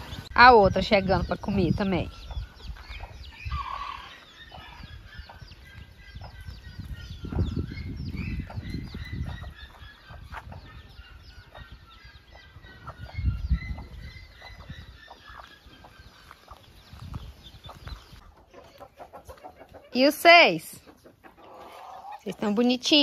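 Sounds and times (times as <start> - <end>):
chickens clucking: 0.0 - 23.0
chicks cheeping: 0.0 - 23.0.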